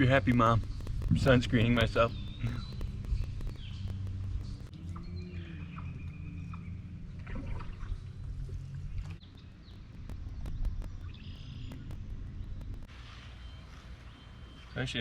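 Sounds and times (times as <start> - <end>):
wind rumble on microphone: 0.0 - 12.9
water trickling and lapping: 0.3 - 14.8.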